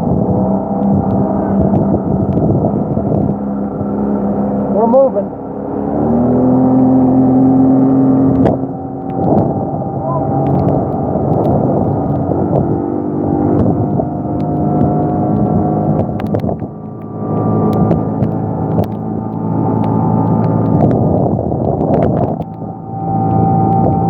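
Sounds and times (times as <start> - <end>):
boat motor running: 0.0 - 24.0.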